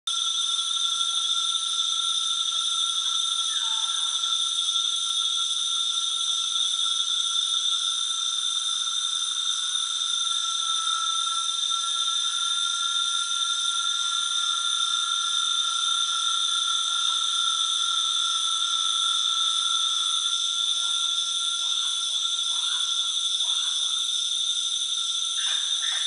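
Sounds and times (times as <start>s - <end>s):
insects trilling: 0.1s - 26.0s
low insect call: 0.1s - 26.0s.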